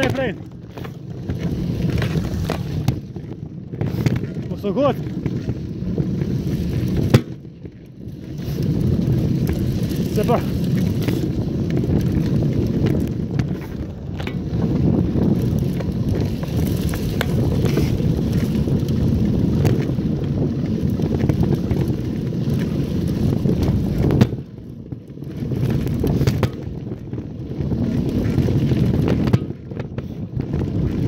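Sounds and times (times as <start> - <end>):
tyres rumbling on dirt: 0.0 - 31.0
wind buffeting microphone: 0.0 - 31.0.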